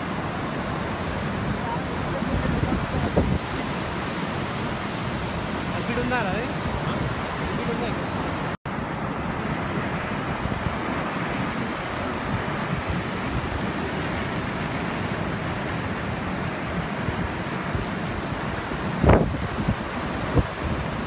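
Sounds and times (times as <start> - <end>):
water rushing over spillway: 0.0 - 21.0
wind buffeting microphone: 0.0 - 21.0.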